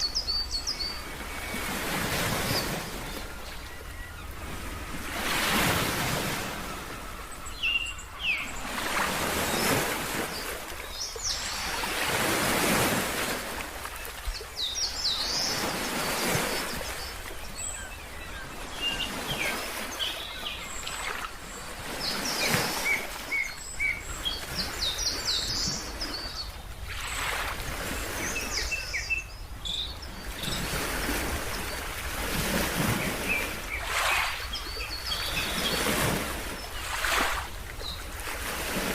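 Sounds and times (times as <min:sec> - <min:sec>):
birds chirping: 0:00.0 - 0:13.0, 0:13.9 - 0:38.1.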